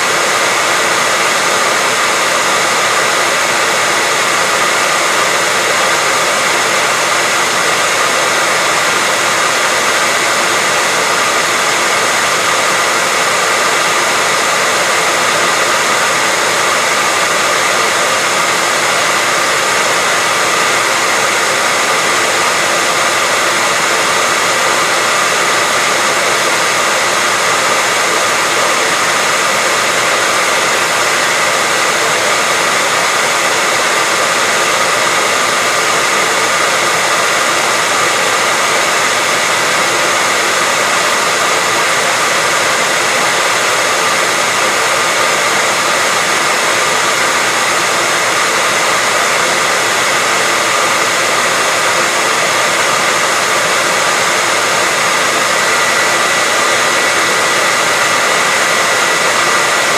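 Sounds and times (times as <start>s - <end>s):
hair dryer air rushing: 0.0s - 59.9s.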